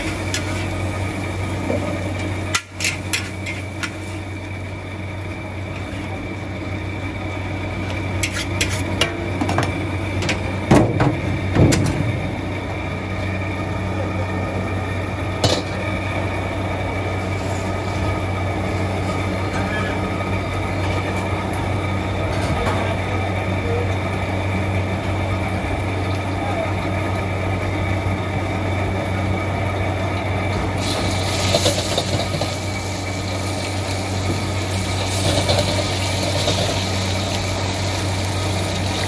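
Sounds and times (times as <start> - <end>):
burner and extractor fan hum: 0.0 - 39.0.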